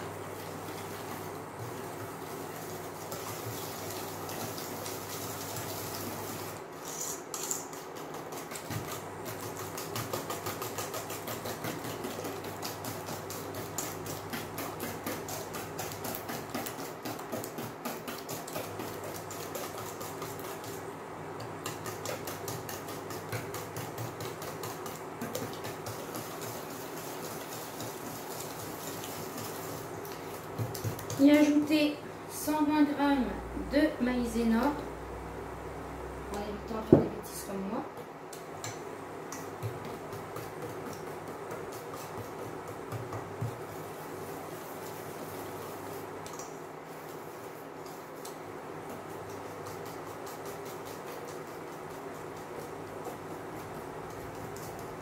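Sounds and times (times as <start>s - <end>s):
whisk beating in a metal bowl: 0.0s - 31.8s, 38.6s - 55.0s.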